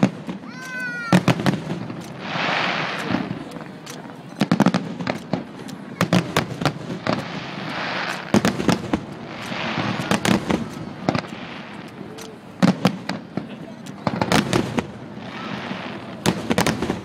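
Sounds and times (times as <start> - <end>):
firework bangs: 0.0 - 17.0
firework hissing rush: 0.0 - 17.0.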